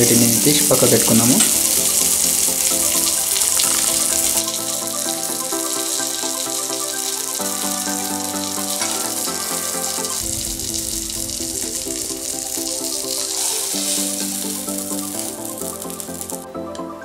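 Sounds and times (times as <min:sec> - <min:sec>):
chicken frying in hot oil: 0:00.0 - 0:16.4
background music with held notes: 0:00.0 - 0:17.0.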